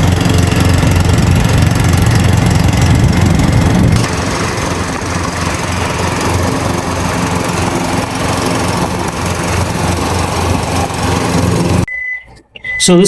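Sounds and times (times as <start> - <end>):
riding lawn mower engine running: 0.0 - 11.9.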